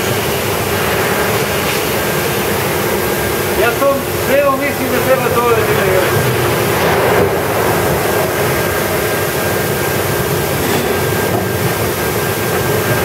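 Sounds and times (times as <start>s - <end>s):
heavy industrial machinery drone: 0.0s - 13.0s.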